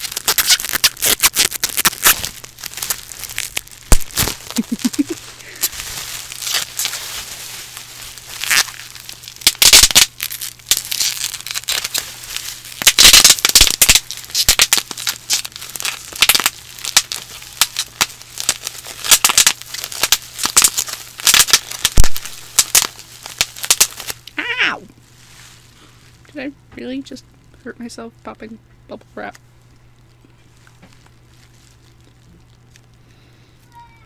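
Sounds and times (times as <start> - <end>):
plastic sheet crinkling: 0.0 - 26.4, 29.6 - 33.0
bubble wrap popping: 0.0 - 27.6, 29.2 - 33.0.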